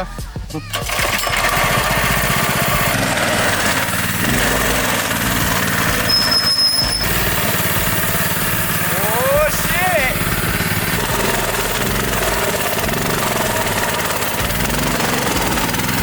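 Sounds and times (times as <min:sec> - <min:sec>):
small engine running: 0:00.2 - 0:16.0.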